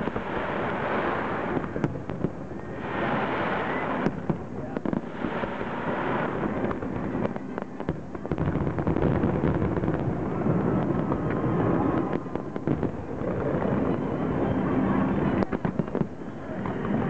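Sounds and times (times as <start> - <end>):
fireworks bangs and crackles: 0.0 - 17.0
rumble of fireworks bursts: 0.0 - 17.0.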